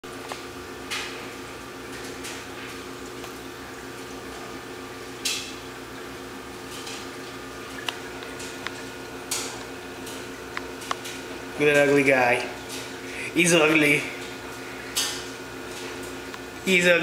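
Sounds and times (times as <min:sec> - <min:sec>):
laundry machine humming: 0:00.0 - 0:17.0.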